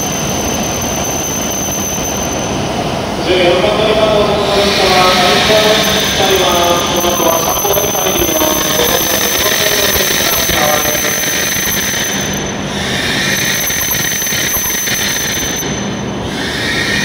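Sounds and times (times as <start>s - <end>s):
high steady squeal: 0.0s - 17.0s
train rolling to a stop: 0.0s - 17.0s.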